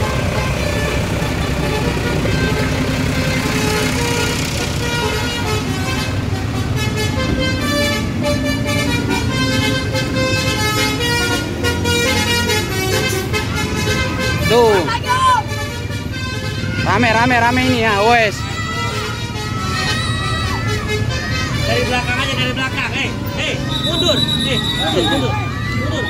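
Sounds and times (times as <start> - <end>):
musical bus horn: 0.0 - 25.7
bus engine running: 0.0 - 26.0.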